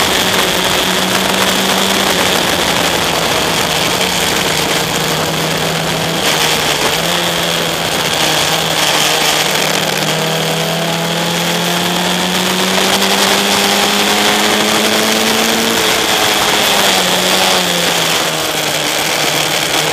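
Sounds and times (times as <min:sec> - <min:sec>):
steady high whine: 0:00.0 - 0:18.8
race car engine revving: 0:00.0 - 0:19.9
rushing wind noise: 0:00.0 - 0:19.9.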